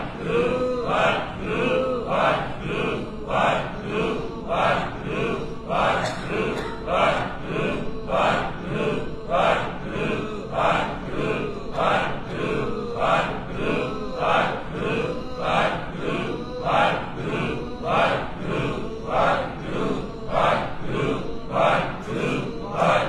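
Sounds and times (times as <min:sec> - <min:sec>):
voices chanting a phrase: 0:00.0 - 0:23.0.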